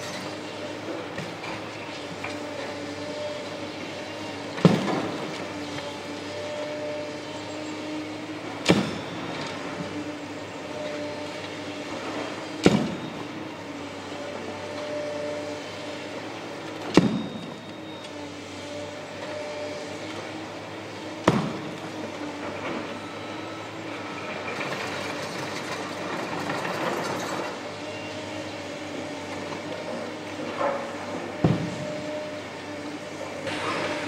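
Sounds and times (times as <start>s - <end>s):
excavator diesel engines running: 0.0s - 34.0s.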